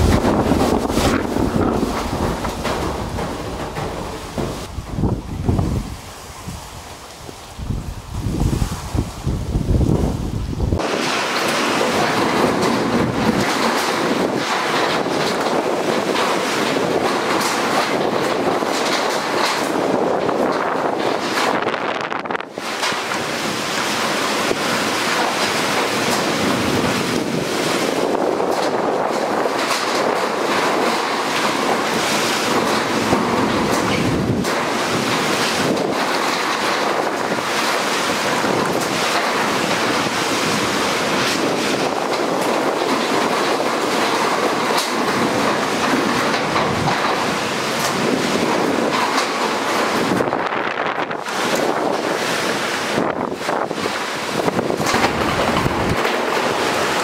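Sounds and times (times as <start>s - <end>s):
strong wind rushing: 0.0s - 57.0s.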